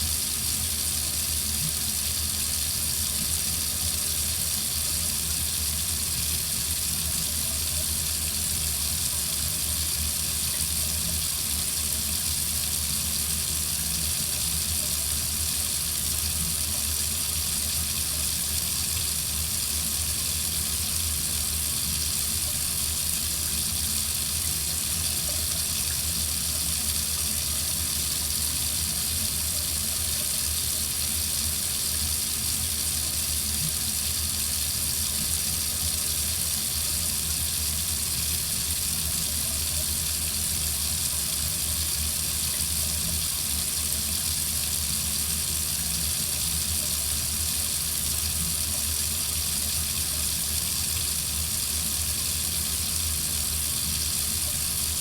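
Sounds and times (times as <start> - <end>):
water running from faucet: 0.0 - 55.0.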